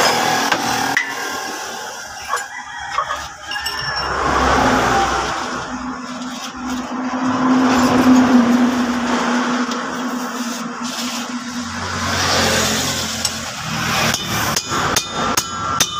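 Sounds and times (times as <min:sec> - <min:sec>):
vehicle engine droning: 0:03.0 - 0:15.9.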